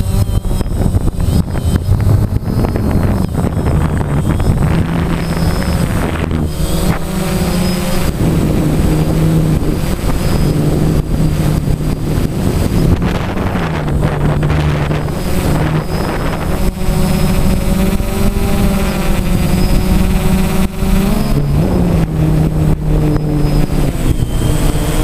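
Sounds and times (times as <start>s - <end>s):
drone motors and propellers humming: 0.0s - 25.0s
wind on microphone: 0.0s - 25.0s.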